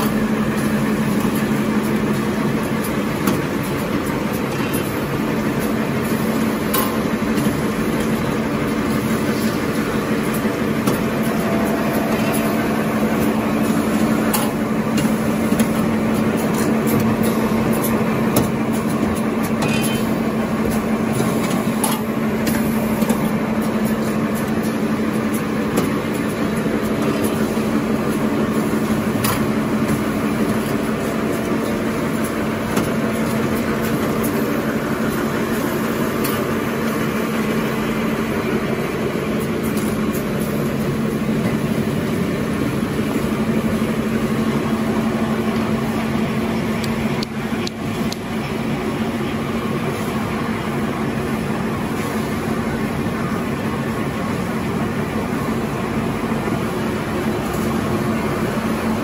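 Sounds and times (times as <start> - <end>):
production line mechanical hum: 0.0 - 59.0.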